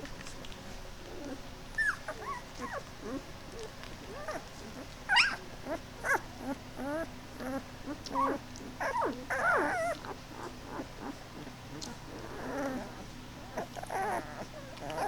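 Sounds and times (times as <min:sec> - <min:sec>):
puppies crying and squeaking: 0:01.1 - 0:15.0.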